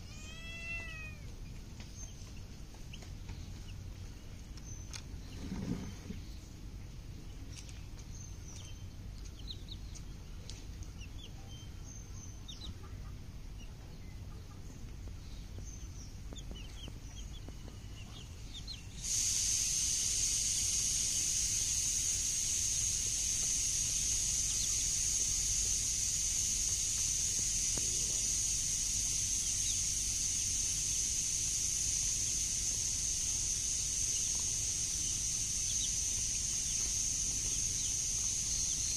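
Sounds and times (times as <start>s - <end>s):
loud steady high hiss: 0.0s - 38.9s
chicks peeping: 0.1s - 5.1s, 7.4s - 30.7s, 31.4s - 38.9s.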